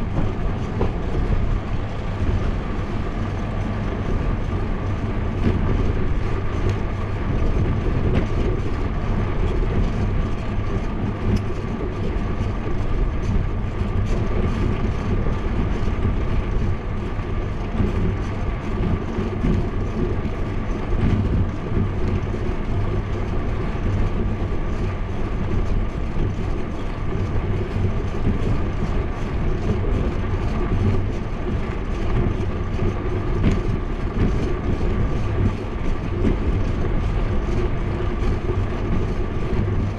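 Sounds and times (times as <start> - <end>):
bicycle tyre rumble on asphalt: 0.0 - 39.9
wind on microphone: 0.0 - 39.9.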